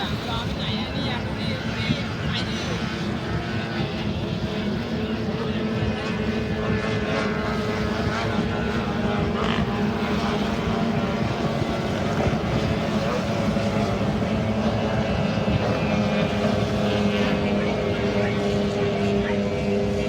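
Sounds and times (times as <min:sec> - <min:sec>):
jet ski engines droning: 0:00.0 - 0:20.0.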